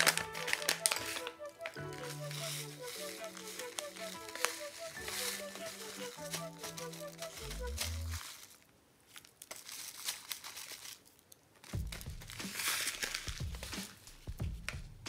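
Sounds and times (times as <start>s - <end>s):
pouch crinkling: 0.0s - 14.3s.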